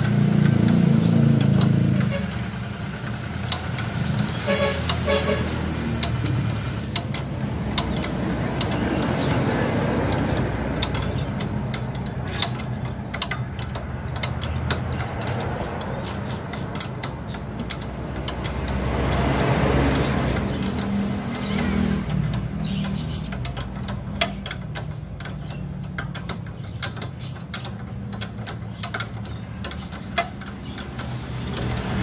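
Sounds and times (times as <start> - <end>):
hand tools clicking on metal: 0.0 - 32.0
low engine-like hum: 0.0 - 32.0.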